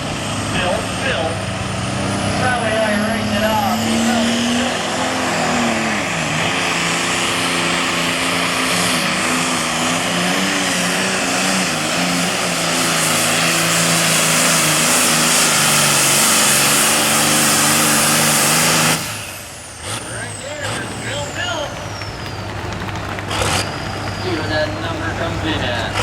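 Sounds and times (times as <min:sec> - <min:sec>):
diesel tractor engine revving high: 0:00.0 - 0:26.0.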